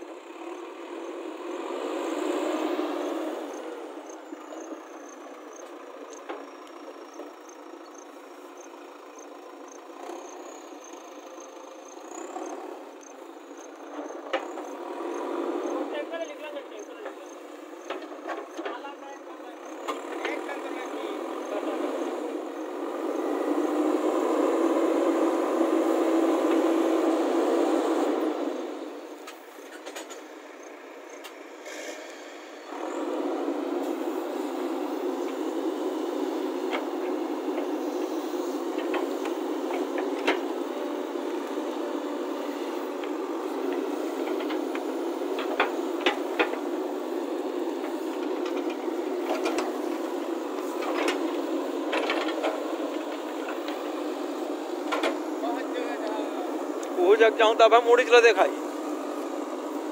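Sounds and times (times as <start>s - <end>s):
backhoe engine and hydraulics: 0.0s - 59.9s.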